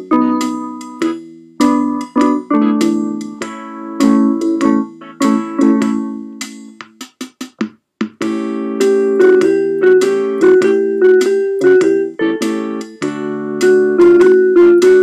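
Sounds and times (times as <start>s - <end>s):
keyboard playing ragtime blues: 0.0s - 7.0s, 8.0s - 15.0s.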